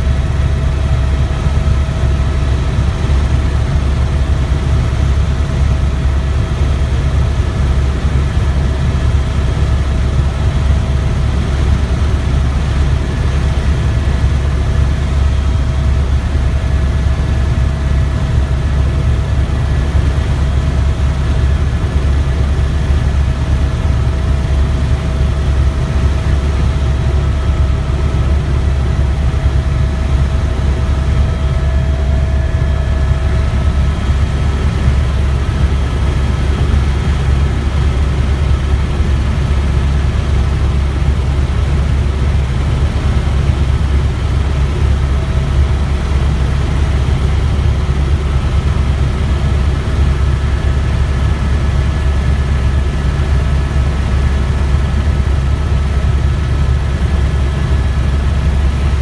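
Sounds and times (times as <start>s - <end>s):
faint steady whining tones: 0.0s - 59.0s
helicopter drone inside cabin: 0.0s - 59.0s.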